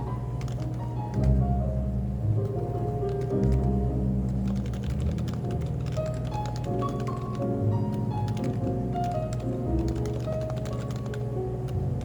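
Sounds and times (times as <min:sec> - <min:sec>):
keyboard keystrokes: 0:00.4 - 0:01.4, 0:03.1 - 0:11.8.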